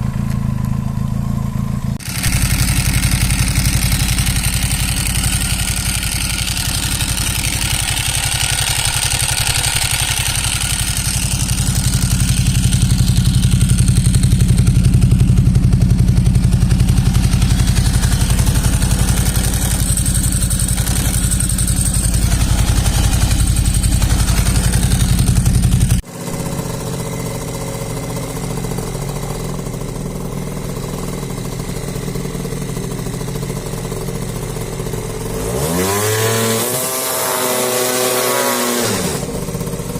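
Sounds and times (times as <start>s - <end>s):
engine running steadily: 0.0s - 39.9s
motorcycle engine idling: 0.0s - 39.9s.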